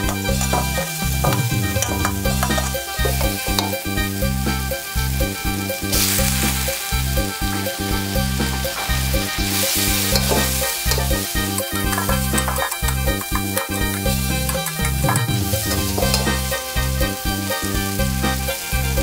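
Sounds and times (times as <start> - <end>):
background music with bass line: 0.0 - 19.0
metal spatula scraping wok: 0.0 - 19.0
oil sizzling: 0.0 - 19.0.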